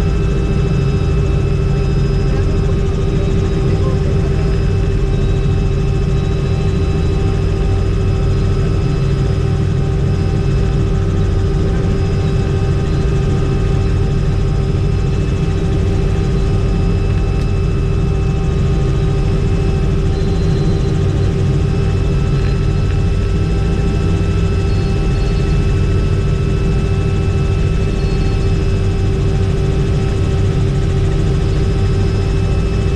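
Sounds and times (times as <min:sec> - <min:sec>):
helicopter rotor and turbine drone: 0:00.0 - 0:32.9
steady whining tones: 0:00.0 - 0:32.9.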